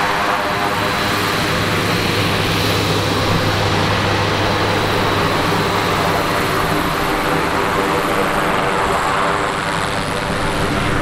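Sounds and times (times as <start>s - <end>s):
turboprop engine running: 0.0s - 11.0s.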